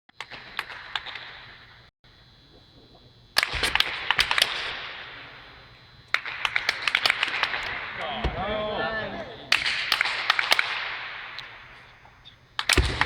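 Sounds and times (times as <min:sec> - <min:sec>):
rapid sharp cracks: 0:00.1 - 0:01.9, 0:02.5 - 0:13.0.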